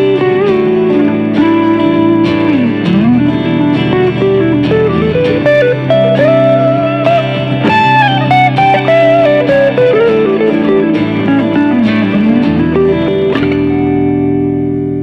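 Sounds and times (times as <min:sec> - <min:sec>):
guitar playing slow melody: 0:00.0 - 0:15.0.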